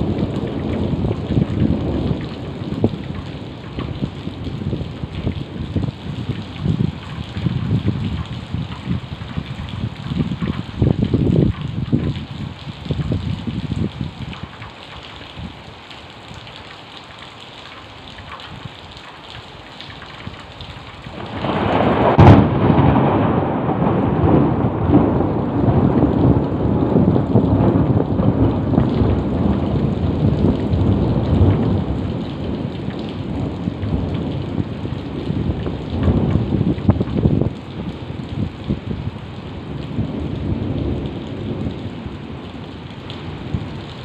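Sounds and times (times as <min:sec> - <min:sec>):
thunder crack and rumble: 0:00.0 - 0:14.6, 0:20.1 - 0:44.0
heavy rain falling: 0:00.0 - 0:44.0.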